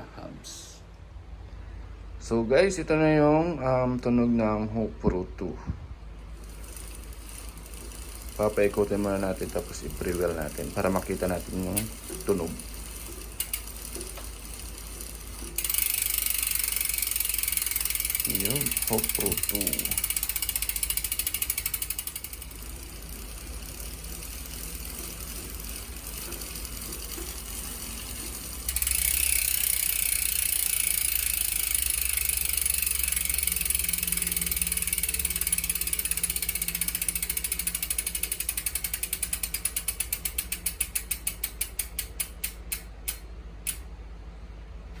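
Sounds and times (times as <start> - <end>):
bicycle freehub clicking: 6.2 - 44.0.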